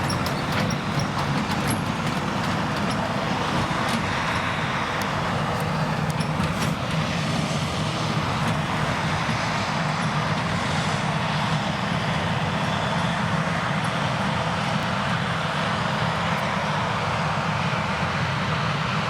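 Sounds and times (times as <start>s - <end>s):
forage harvester engine: 0.0s - 19.0s.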